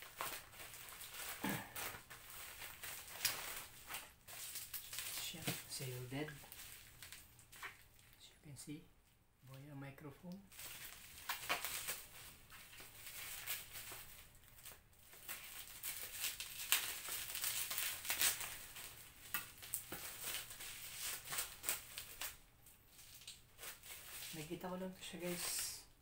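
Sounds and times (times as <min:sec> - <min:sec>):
plastic wrapping crinkling: 0:00.0 - 0:08.2, 0:10.3 - 0:25.9.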